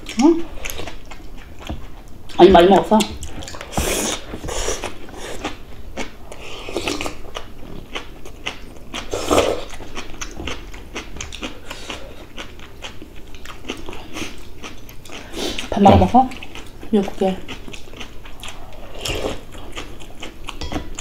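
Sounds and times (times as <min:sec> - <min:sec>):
chewing and slurping food: 0:03.2 - 0:21.0.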